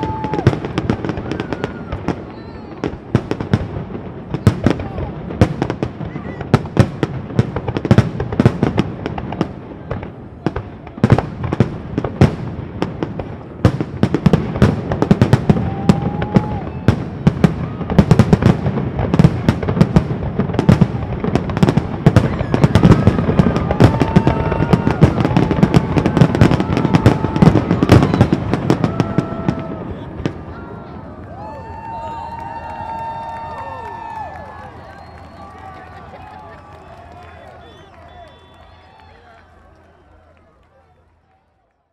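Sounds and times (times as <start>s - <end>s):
fireworks whistling: 0.0s - 9.5s, 11.0s - 30.8s, 31.4s - 41.2s
fireworks bangs and crackles: 0.0s - 41.4s.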